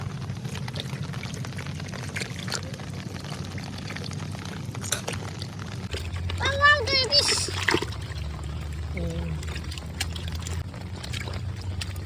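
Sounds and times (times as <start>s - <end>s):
low steady hum: 0.0s - 12.0s
water pouring and splashing: 0.0s - 12.0s.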